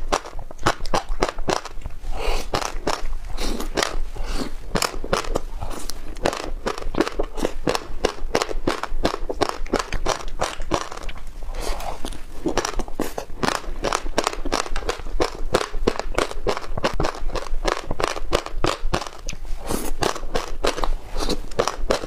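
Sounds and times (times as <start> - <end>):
crunchy chewing of seeds: 0.0 - 22.0.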